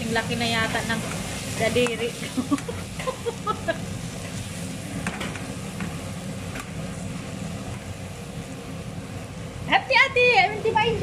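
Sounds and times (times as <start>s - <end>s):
food sizzling in a wok: 0.0s - 11.0s
gas stove low rumble: 0.0s - 11.0s.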